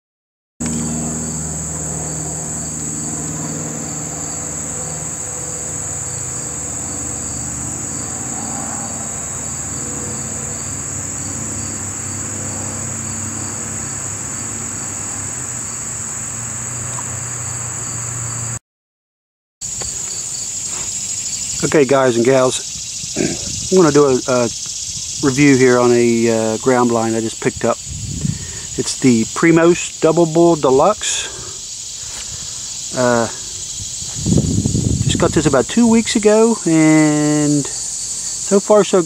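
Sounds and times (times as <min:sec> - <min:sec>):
insects chirring: 0:00.6 - 0:18.6, 0:19.6 - 0:39.0
pulsing insect call: 0:00.6 - 0:18.6, 0:19.6 - 0:39.0.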